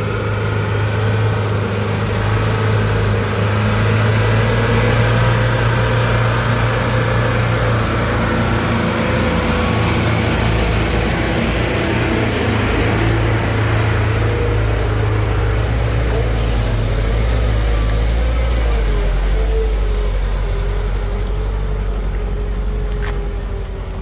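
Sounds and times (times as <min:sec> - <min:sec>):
heavy diesel engine drone: 0:00.0 - 0:24.0.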